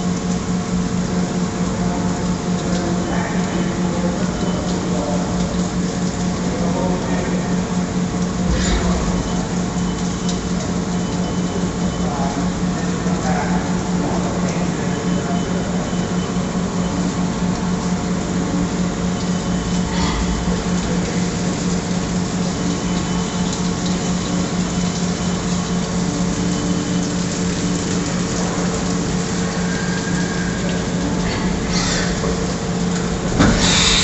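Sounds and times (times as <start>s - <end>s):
coolant flowing: 0.0s - 34.0s
milling machine hum: 0.0s - 34.0s.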